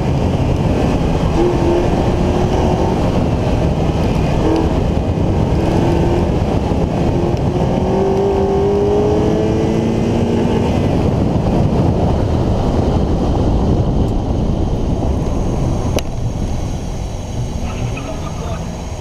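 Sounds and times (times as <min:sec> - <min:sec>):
road and engine rumble: 0:00.0 - 0:19.0
wind buffeting microphone: 0:00.0 - 0:19.0.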